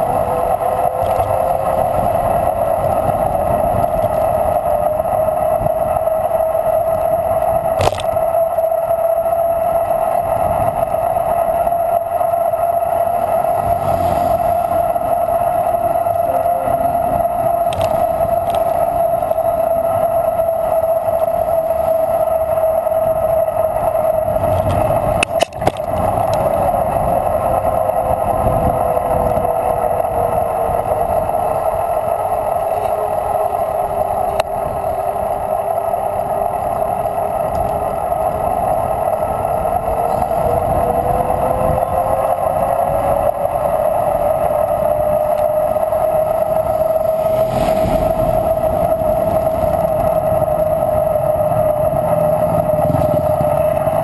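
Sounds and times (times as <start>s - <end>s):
bike tyres humming on asphalt: 0.0s - 54.0s
wind noise: 0.0s - 54.0s.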